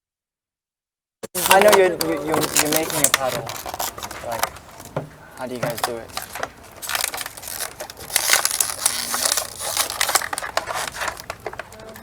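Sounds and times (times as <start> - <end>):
craft materials crackling and crinkling: 1.2 - 12.0.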